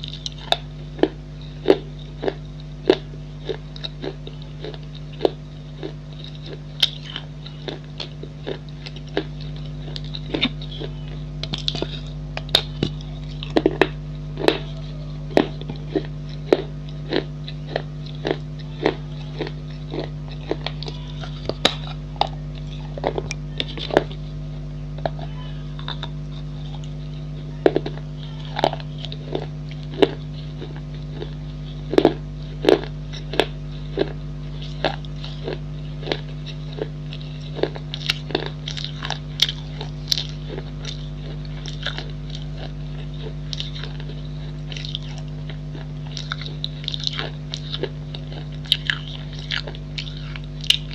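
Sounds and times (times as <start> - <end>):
crunchy chewing: 0.0 - 50.9
steady low hum: 0.0 - 50.9.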